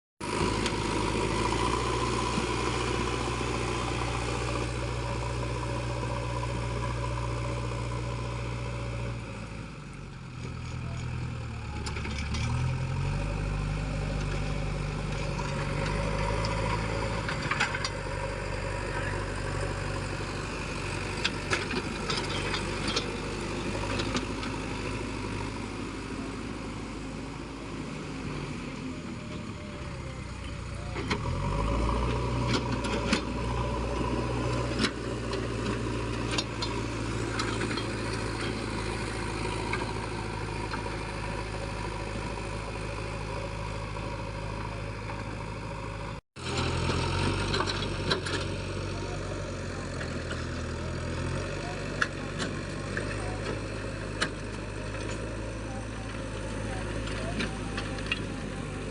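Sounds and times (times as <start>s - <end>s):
diesel engine running: 0.2s - 58.9s.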